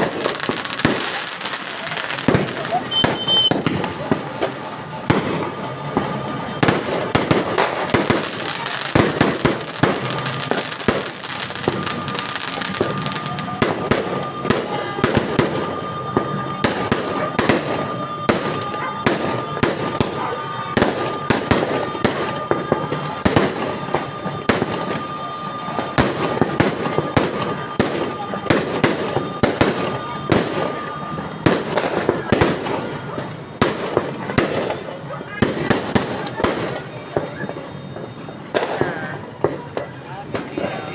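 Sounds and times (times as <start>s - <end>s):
steady high tone: 0.0s - 33.6s
fireworks and firecrackers banging: 0.0s - 40.9s.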